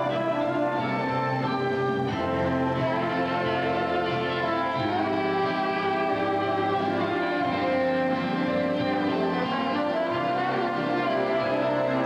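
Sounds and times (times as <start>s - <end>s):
orchestral string music: 0.0s - 12.0s.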